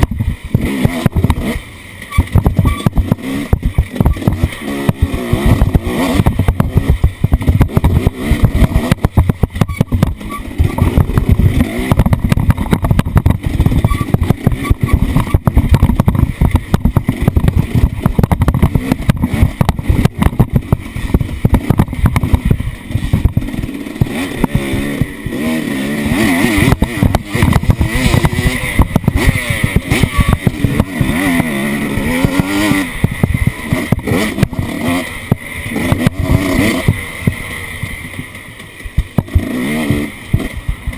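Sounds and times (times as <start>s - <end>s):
choppy rumbling and buffeting: 0.0s - 40.9s
off-road vehicle engine revving: 0.0s - 40.9s.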